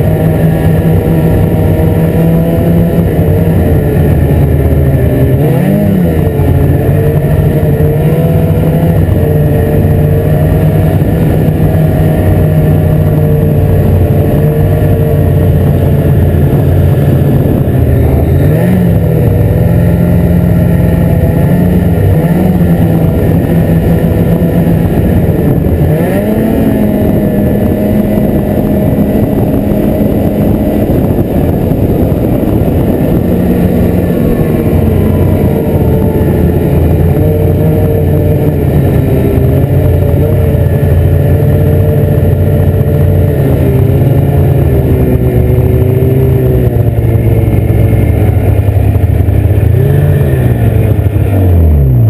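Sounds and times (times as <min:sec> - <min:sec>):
snowmobile engine running: 0:00.0 - 0:52.0.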